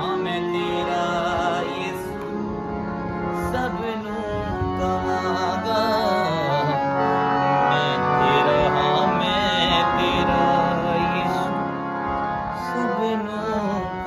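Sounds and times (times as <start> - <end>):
harmonium playing: 0.0 - 14.0.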